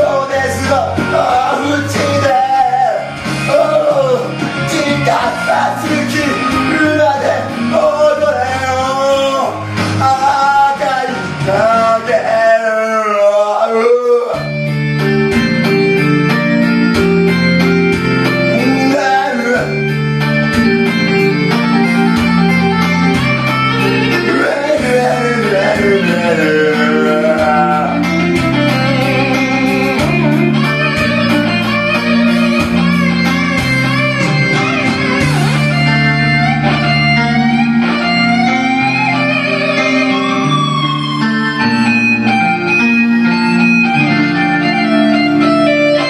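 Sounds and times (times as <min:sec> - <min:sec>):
stepping bass line: 0:00.0 - 0:12.3, 0:14.4 - 0:46.0
guitar melody: 0:00.0 - 0:46.0
karaoke backing track: 0:00.0 - 0:46.0.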